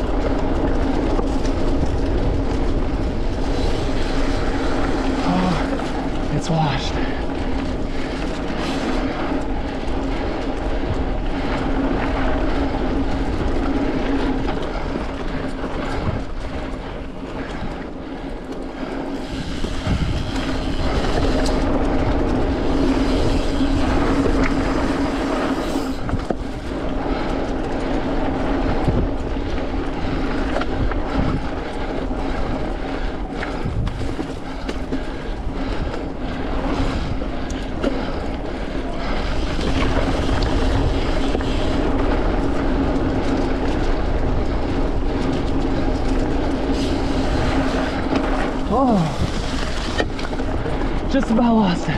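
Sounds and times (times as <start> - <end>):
bike tyres rolling and rattling: 0.0 - 51.9
constant hum: 0.0 - 51.9.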